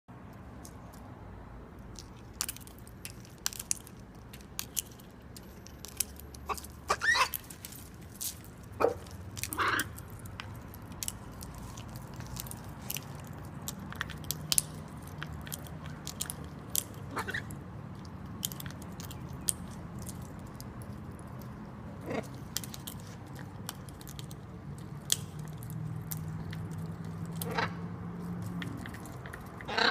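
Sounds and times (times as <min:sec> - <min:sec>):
macaw beak crunching food: 0:01.7 - 0:29.9.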